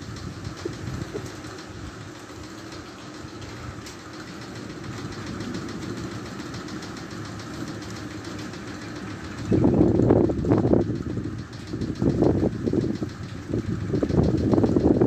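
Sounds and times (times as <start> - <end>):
faint rapid ticking: 0.0 - 15.0
low engine-like rumble: 0.0 - 15.0.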